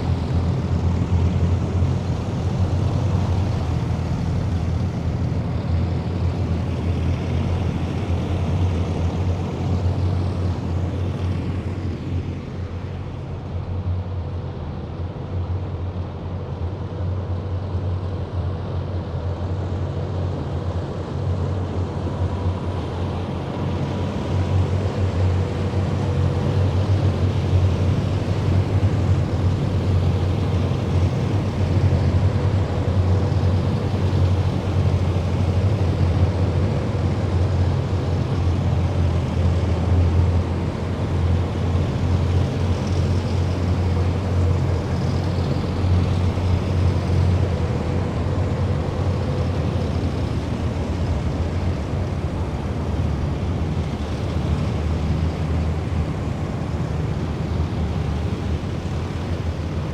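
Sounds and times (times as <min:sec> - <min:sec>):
military vehicles engine rumble: 0:00.0 - 0:59.9.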